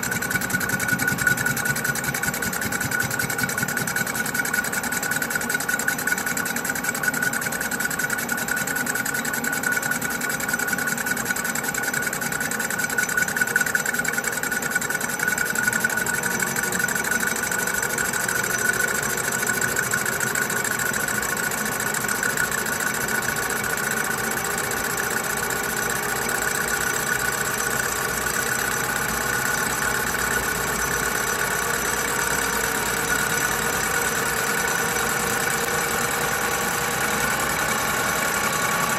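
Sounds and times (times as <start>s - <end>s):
metal lathe whining: 0.0s - 7.1s, 8.9s - 38.9s.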